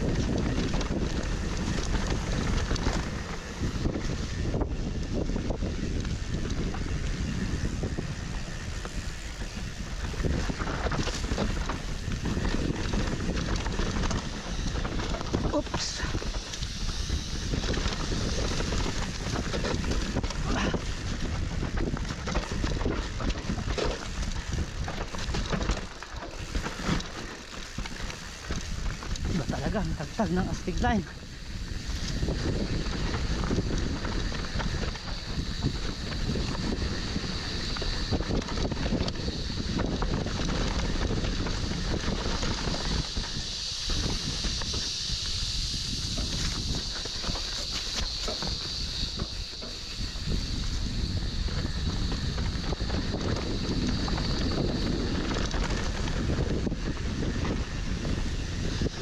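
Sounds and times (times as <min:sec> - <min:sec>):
bike knocking and rattling: 0:00.0 - 0:59.0
bike tyres on dirt trail: 0:00.0 - 0:59.0
wind on microphone: 0:00.0 - 0:59.0.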